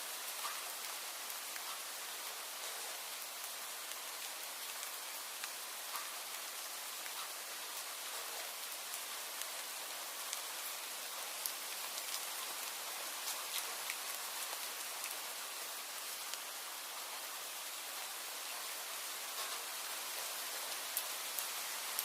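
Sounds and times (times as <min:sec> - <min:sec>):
rain drops ticking on a surface: 0:00.0 - 0:22.0.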